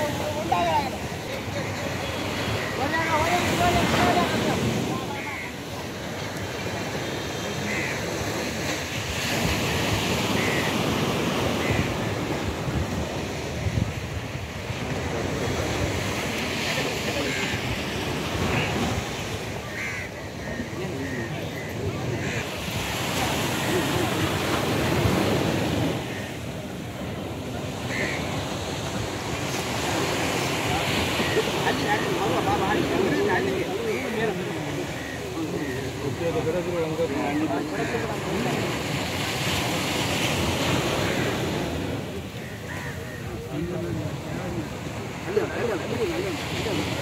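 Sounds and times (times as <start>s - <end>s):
surf breaking on shore: 0.0s - 47.0s.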